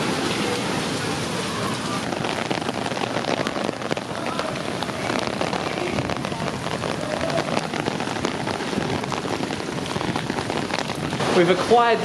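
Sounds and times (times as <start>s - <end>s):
heavy rain on umbrella: 0.0s - 12.0s.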